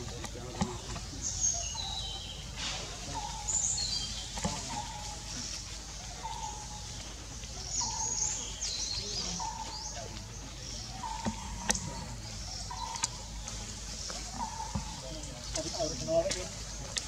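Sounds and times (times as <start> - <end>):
high twittering birdsong: 0.0 - 17.0.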